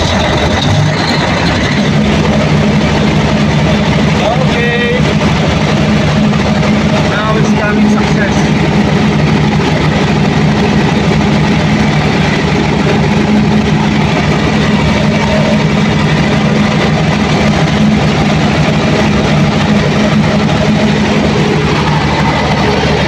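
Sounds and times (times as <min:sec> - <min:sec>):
generator diesel engine running: 0:00.0 - 0:23.0.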